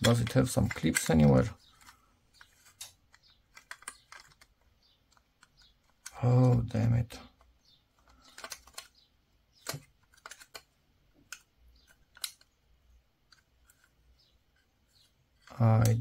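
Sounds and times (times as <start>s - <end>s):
plastic clicks and scrapes: 0.0s - 12.6s, 13.2s - 16.0s.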